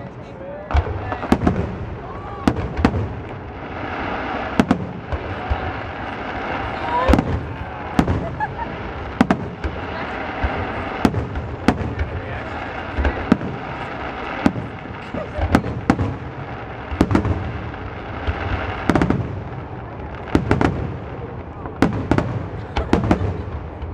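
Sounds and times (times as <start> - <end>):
fireworks bursting: 0.0 - 23.9.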